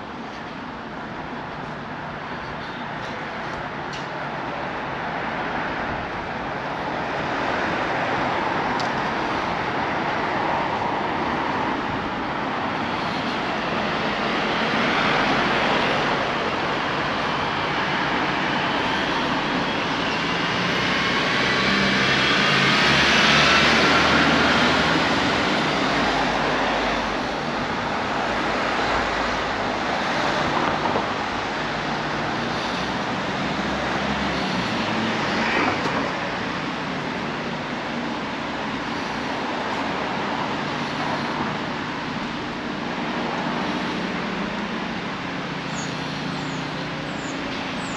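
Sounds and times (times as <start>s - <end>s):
cars driving by: 0.0s - 47.9s.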